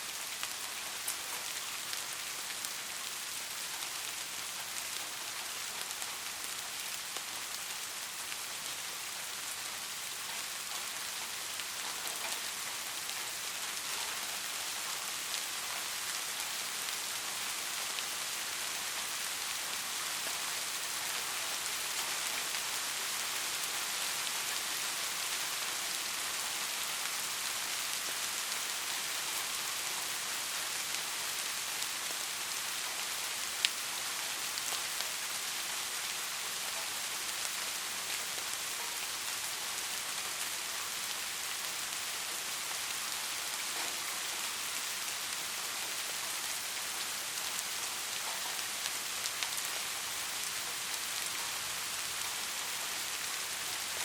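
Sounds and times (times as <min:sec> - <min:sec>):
rain on a hard surface: 0:00.0 - 0:54.0.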